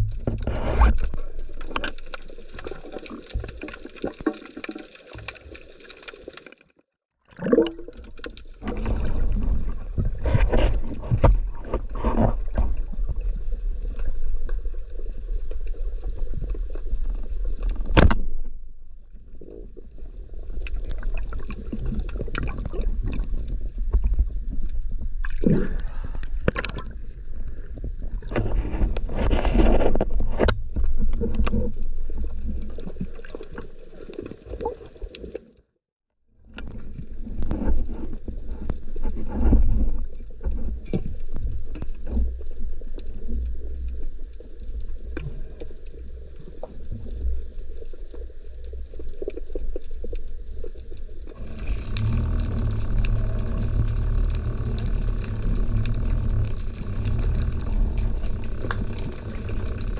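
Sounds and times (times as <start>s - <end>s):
underwater water rumble: 7.4s - 35.2s, 36.4s - 59.9s.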